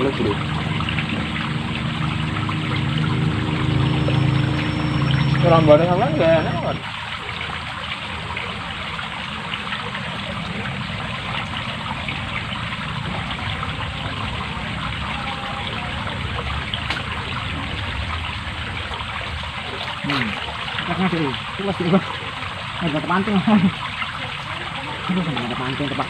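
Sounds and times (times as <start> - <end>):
water running: 0.0 - 26.0.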